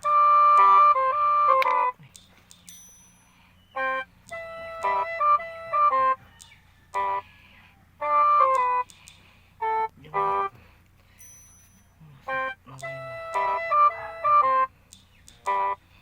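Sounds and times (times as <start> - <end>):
bright keyboard notes music: 0.0 - 7.2, 8.0 - 10.6, 11.5 - 16.0.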